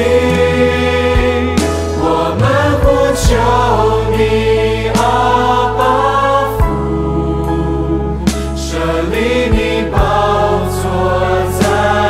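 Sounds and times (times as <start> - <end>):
sustained bass notes: 0.0 - 12.0
worship song melody: 0.0 - 12.0.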